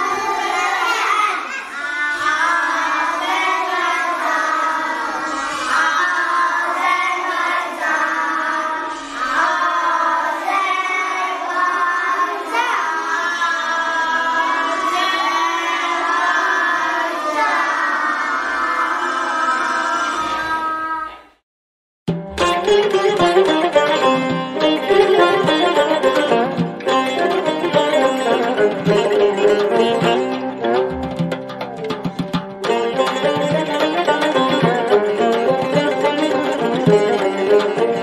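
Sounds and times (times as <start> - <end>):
children singing: 0.0 - 21.3, 22.8 - 30.9, 32.6 - 38.0.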